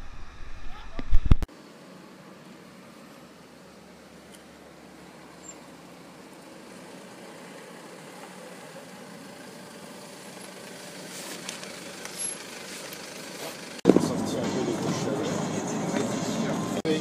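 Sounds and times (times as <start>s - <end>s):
minibus engine running: 1.5s - 17.0s.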